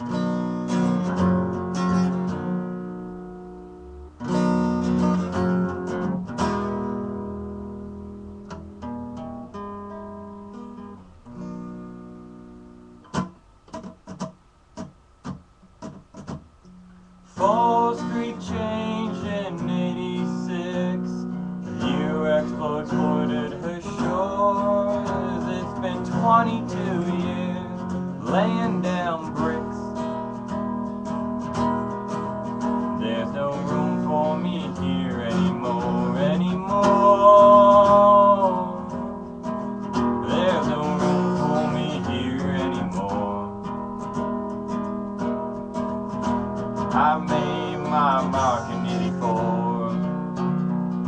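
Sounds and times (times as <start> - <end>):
acoustic guitar strumming: 0.0 - 51.0.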